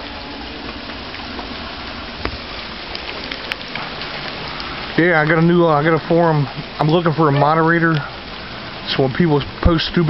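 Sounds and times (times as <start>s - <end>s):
sharp rain ticks: 0.0s - 10.0s
steady rain hiss: 0.0s - 10.0s.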